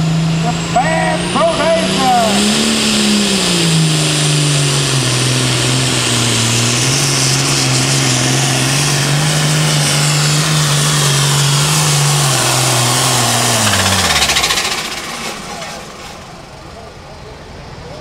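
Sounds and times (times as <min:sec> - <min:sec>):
tractor diesel engine high-revving: 0:00.0 - 0:17.2.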